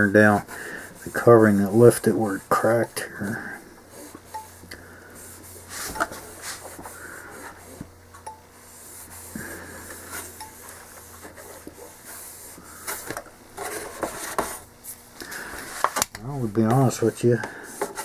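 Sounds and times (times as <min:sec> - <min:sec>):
sealing iron rubbing on film: 0:00.0 - 0:18.0.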